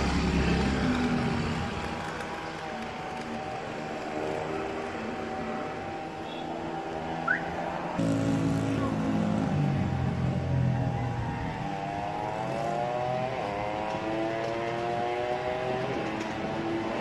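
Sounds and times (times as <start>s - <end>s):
distant engines revving: 0.0s - 17.0s.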